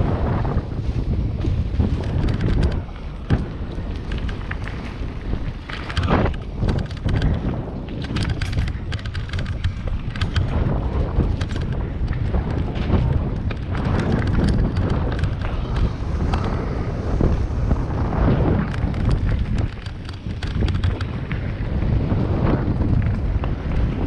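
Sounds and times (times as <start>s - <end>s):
bike clicks and rattles: 0.0s - 24.0s
bike tyre noise: 0.0s - 24.0s
wind buffeting microphone: 0.0s - 24.0s.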